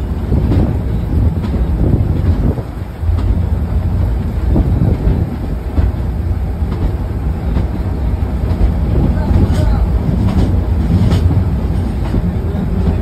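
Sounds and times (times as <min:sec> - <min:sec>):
train carriage rumble: 0:00.0 - 0:13.0
wheels clacking over rail joints: 0:00.0 - 0:13.0.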